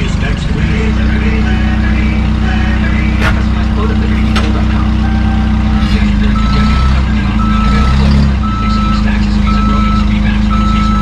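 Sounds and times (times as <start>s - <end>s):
forklift engine running: 0.0s - 11.0s
forklift backup alarm beeping: 0.9s - 11.0s.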